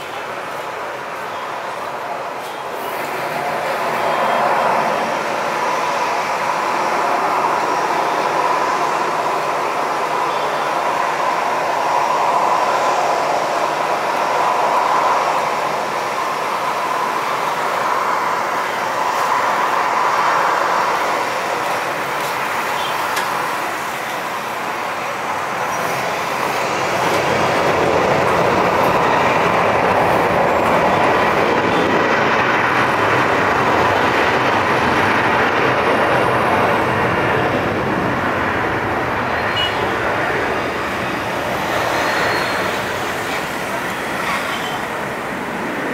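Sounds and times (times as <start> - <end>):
jet engines whining: 3.0 - 45.9.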